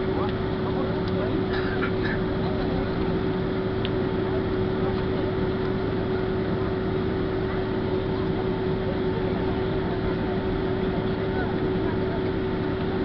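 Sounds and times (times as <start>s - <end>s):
jet engines heard from cabin: 0.0s - 13.0s.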